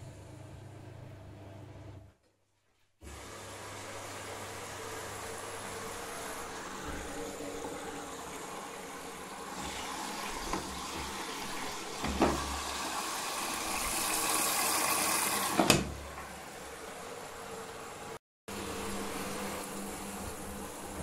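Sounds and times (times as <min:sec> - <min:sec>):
water hissing into washing machine: 0:03.0 - 0:21.0.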